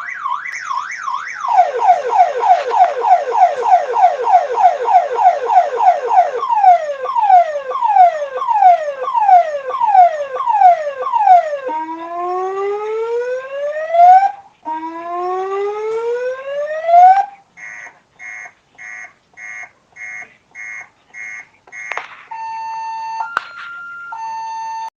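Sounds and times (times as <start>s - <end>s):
electronic ambulance siren: 0.0s - 24.9s.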